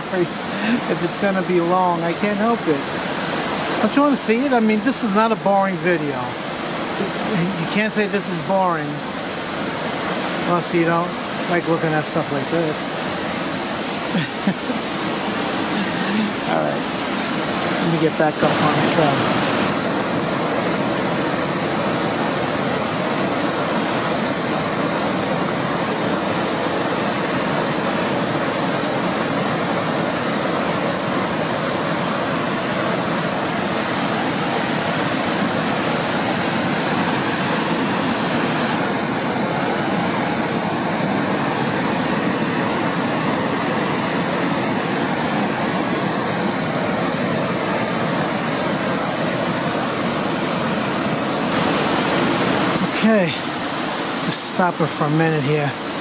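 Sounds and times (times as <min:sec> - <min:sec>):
waterfall and brook rushing: 0:00.0 - 0:56.0.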